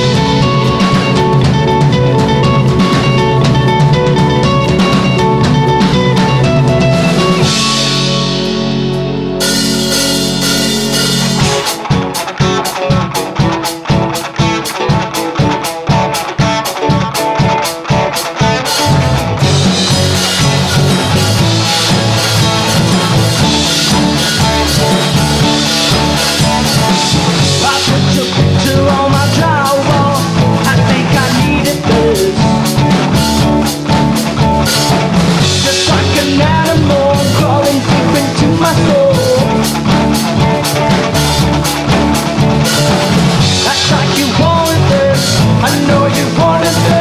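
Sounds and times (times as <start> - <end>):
drum kit with cymbals: 0.0 - 47.0
electric bass: 0.0 - 47.0
electric guitars: 0.0 - 47.0.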